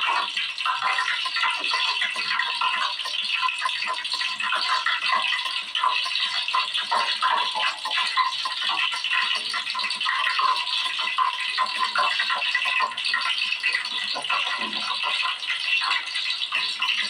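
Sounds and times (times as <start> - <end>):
hot oil sizzling and crackling: 0.0 - 17.0.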